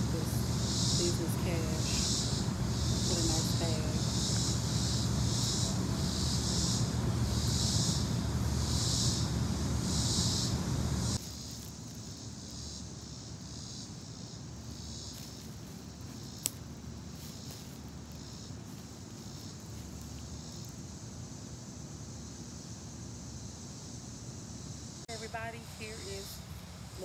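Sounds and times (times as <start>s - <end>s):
insects chirping: 0.0s - 27.0s.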